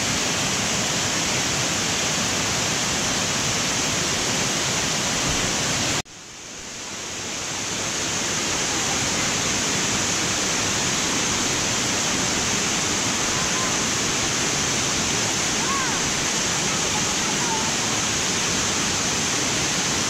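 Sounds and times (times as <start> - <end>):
water rushing down cascades: 0.0 - 20.0.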